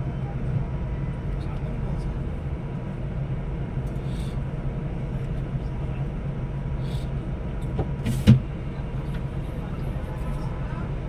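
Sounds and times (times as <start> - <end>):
coach engine and road drone: 0.0 - 11.0.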